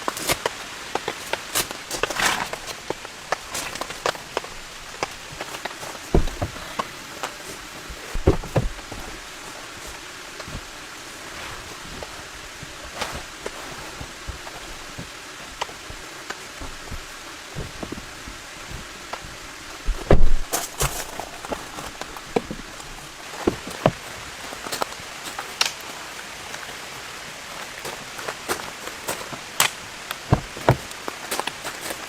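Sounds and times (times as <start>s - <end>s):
rain hiss: 0.0s - 32.0s.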